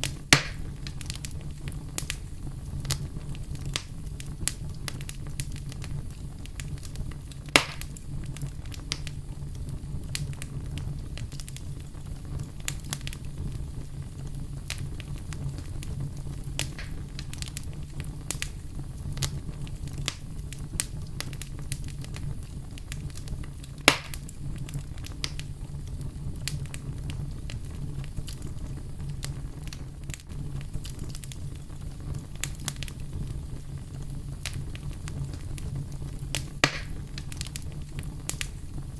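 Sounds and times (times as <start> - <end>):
loud fire pops: 0.0 - 38.9
wood fire crackling: 0.0 - 38.9.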